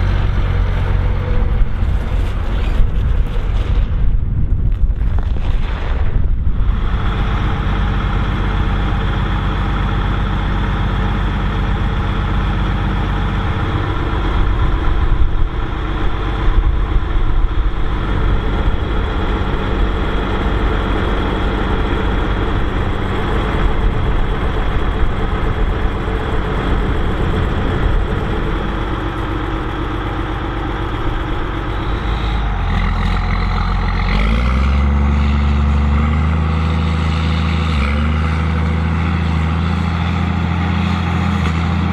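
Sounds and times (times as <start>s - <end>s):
tractor diesel engine under load: 0.0s - 41.9s.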